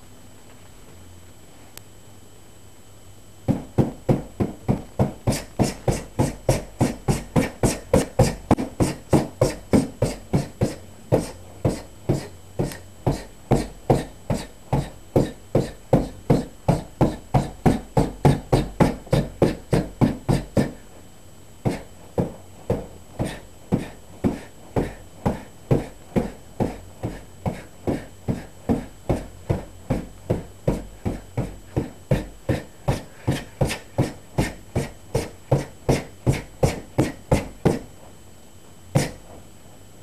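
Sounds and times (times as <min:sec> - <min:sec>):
punches slapping heavy bag: 0:03.5 - 0:20.8, 0:21.6 - 0:37.9, 0:39.0 - 0:39.2.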